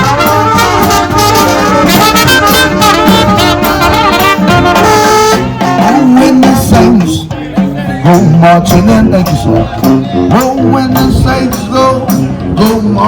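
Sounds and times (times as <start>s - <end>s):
trumpet: 0.0s - 7.0s, 8.1s - 12.9s
trombone: 0.0s - 7.2s, 8.1s - 13.0s
jazz brass band playing: 0.0s - 7.3s, 8.1s - 13.0s
drum strikes: 0.0s - 13.0s.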